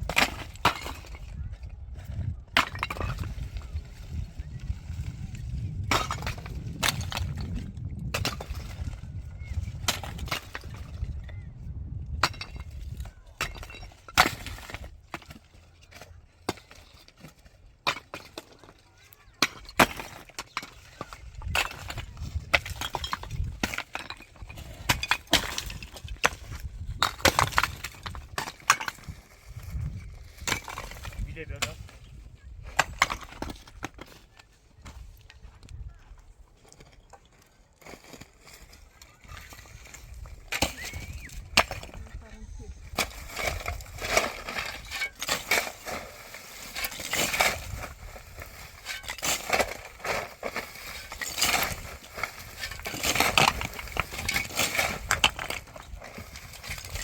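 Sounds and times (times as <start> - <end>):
hard materials clattering knocks: 0.0 - 1.4, 2.0 - 11.4, 12.1 - 35.1, 38.0 - 42.2, 42.8 - 57.0.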